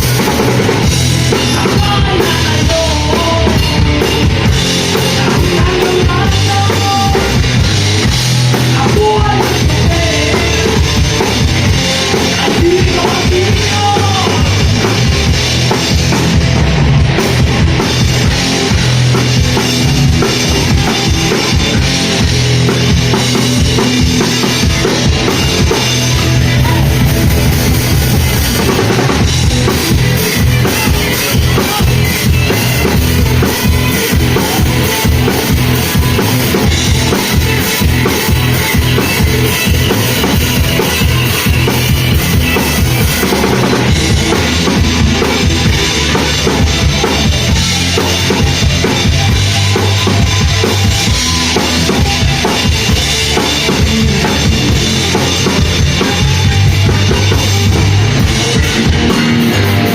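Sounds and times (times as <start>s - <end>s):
drum kit drumming: 0.0s - 59.9s
rock band playing live: 0.0s - 59.9s.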